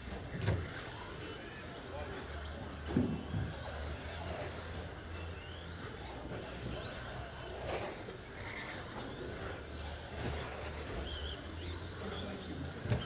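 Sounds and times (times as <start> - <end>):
electric motor whines: 0.0 - 13.0
steady low hum: 0.0 - 13.0.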